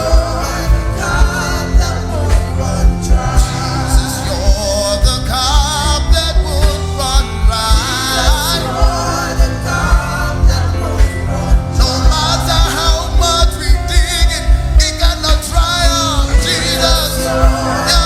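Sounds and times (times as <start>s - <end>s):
low drum beat: 0.0s - 18.0s
person singing: 0.0s - 18.0s
sustained keyboard chords: 0.0s - 18.0s.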